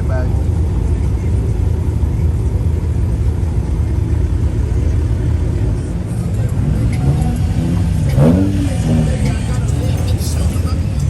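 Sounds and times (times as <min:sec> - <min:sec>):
car engine rumbling and revving: 0:00.0 - 0:11.0.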